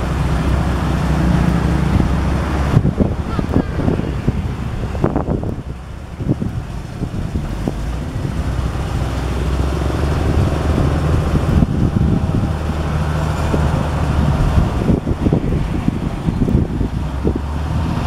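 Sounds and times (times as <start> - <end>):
wheel loader diesel engine: 0.0 - 18.0.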